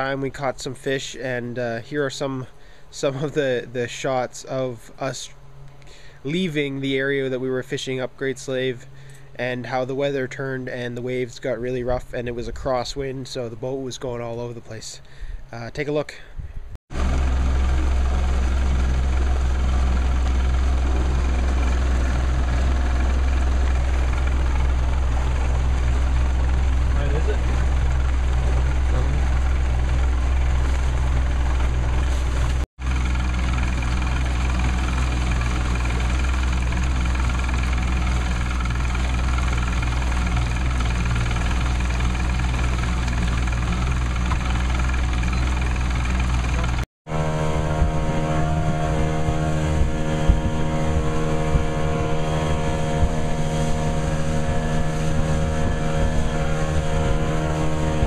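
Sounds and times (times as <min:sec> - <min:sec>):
outboard motor running: 0:00.0 - 0:04.1, 0:04.7 - 0:13.1, 0:16.9 - 0:58.0
wind: 0:00.0 - 0:58.0.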